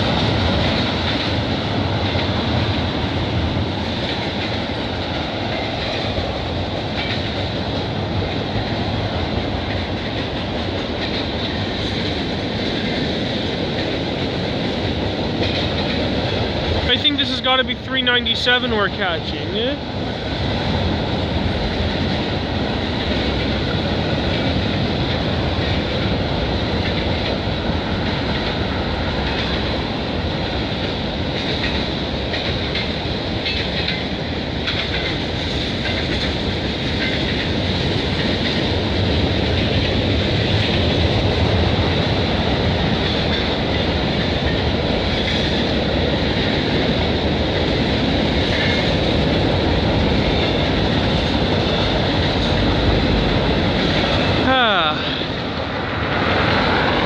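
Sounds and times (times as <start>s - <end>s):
train wheels clattering on bridge: 0.0s - 57.0s.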